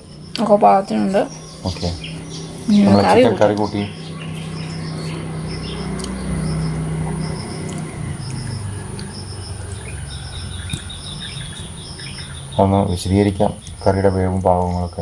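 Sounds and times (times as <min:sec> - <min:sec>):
high pulsed chirps: 0:00.0 - 0:15.0
small birds chirping: 0:00.0 - 0:15.0
steady low hum: 0:00.0 - 0:15.0.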